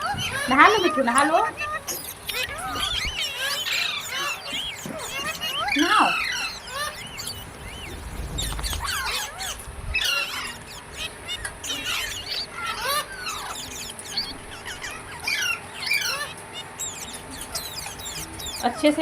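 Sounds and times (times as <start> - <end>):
parakeets chirping: 0.0 - 19.0.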